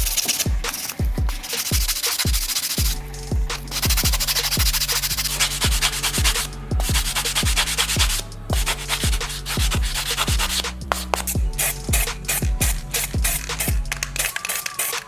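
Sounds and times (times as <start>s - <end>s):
electronic music with kick drum: 0.0s - 14.9s
abrasive rubbing noise: 0.0s - 15.0s.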